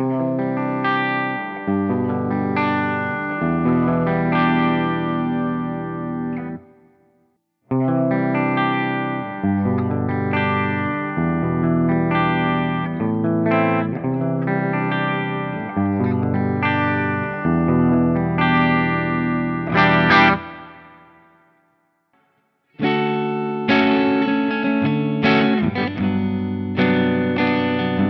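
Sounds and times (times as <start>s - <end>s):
electric guitar chords: 0.0s - 28.0s.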